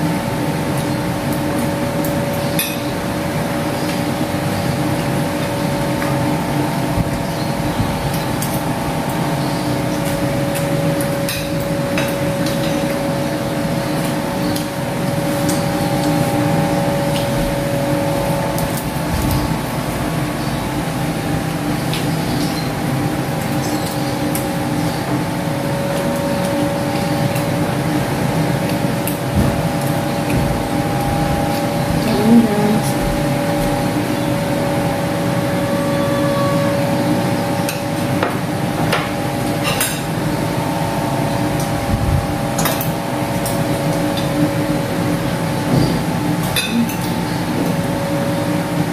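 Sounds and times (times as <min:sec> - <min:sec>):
droning hum with held tones: 0:00.0 - 0:48.9.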